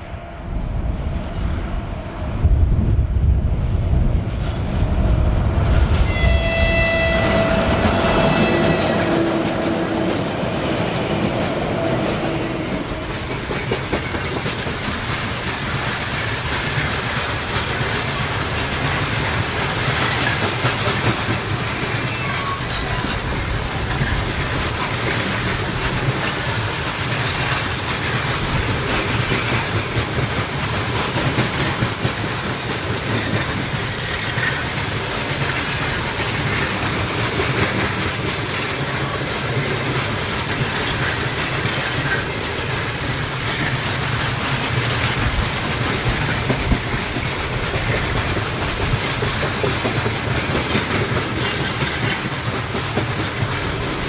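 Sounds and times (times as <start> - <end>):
wagon wheels clattering on rails: 5.8 - 54.0.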